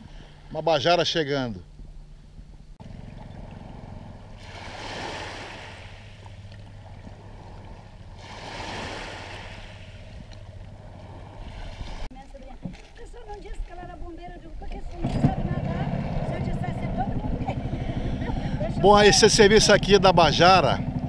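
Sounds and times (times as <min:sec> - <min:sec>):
boat engine droning: 0:00.0 - 0:12.8, 0:14.4 - 0:21.0
wind and waves washing: 0:00.0 - 0:21.0.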